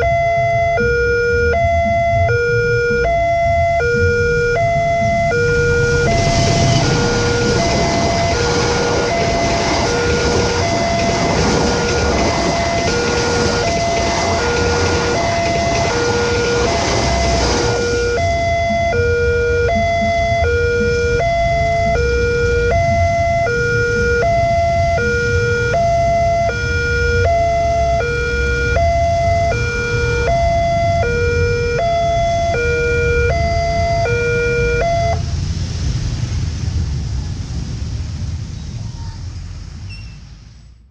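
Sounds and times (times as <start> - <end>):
two-tone warning siren: 0.0 - 35.5
motorbike engines rumbling: 0.0 - 40.7.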